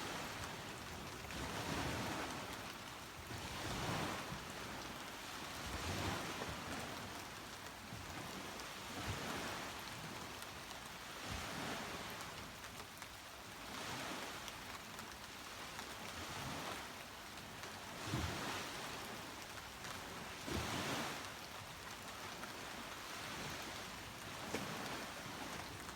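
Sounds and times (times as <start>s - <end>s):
rain falling on a beach: 0.0s - 25.9s.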